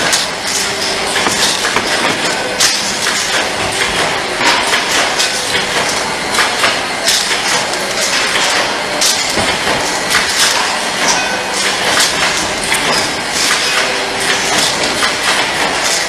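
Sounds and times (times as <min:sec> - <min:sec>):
clatter of clicks and knocks: 0:00.0 - 0:16.0
machinery running: 0:00.0 - 0:16.0.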